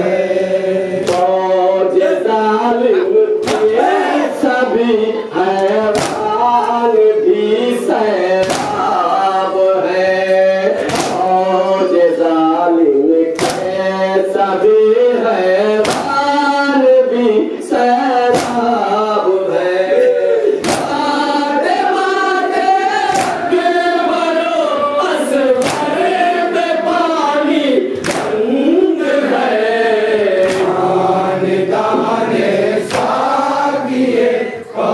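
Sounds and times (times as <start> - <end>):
sharp rhythmic beats: 0.0 - 11.9, 12.7 - 34.9
men chanting a lament: 0.0 - 34.9.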